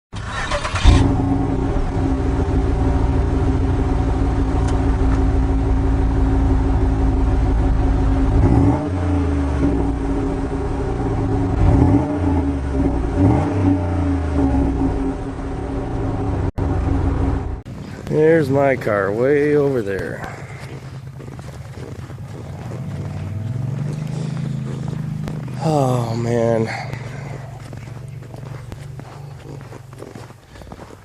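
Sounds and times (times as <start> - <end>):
car engine hum and road rumble: 0.2 - 31.0.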